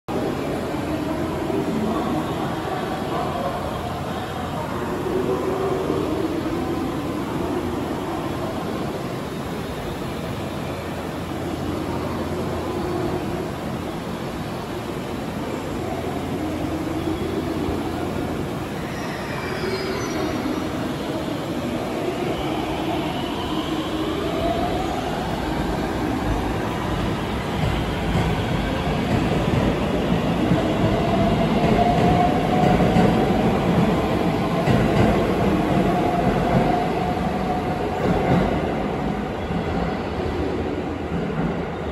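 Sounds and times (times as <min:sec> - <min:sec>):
train wheels on rail: 0:00.1 - 0:41.9.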